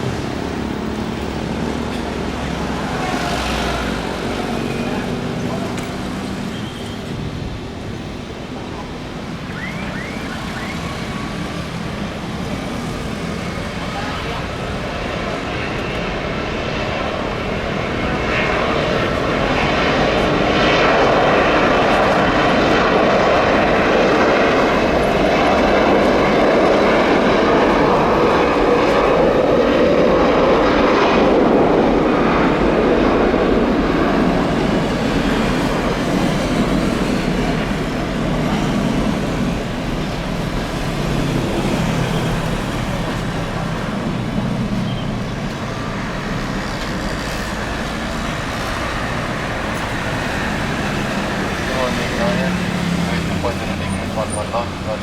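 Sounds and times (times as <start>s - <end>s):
jet engines roaring past: 0.0s - 55.0s.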